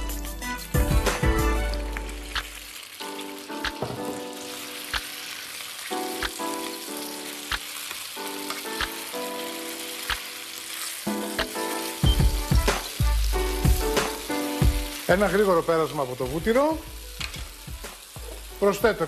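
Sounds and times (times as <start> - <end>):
pasta sizzling in a pan: 1.4 - 19.0.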